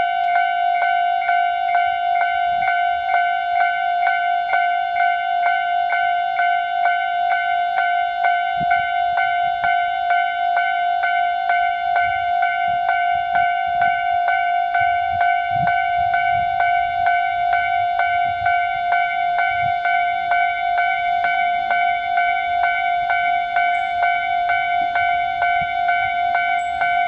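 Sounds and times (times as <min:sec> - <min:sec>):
level crossing alarm bell: 0:00.0 - 0:27.0.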